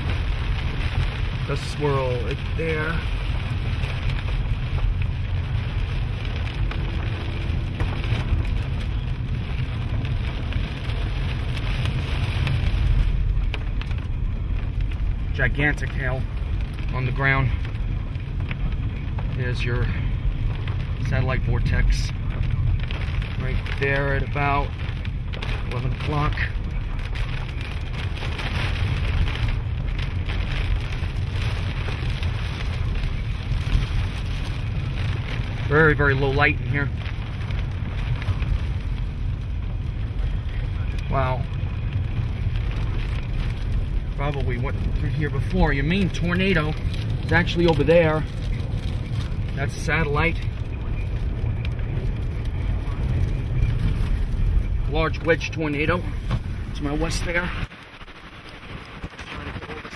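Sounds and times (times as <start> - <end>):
car low rumble: 0.0 - 59.9
rain on car roof: 0.0 - 59.9.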